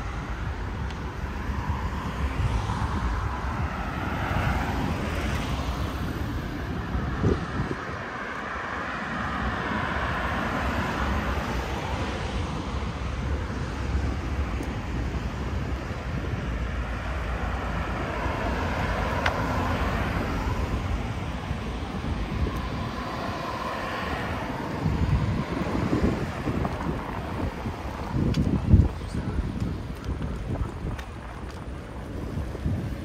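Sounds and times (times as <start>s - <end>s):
cars passing on city street: 0.0s - 33.0s.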